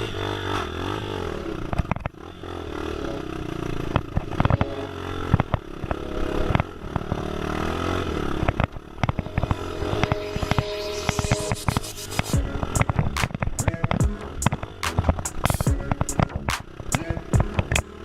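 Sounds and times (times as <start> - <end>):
motorcycle engine running: 0.0 - 10.4, 12.4 - 18.0.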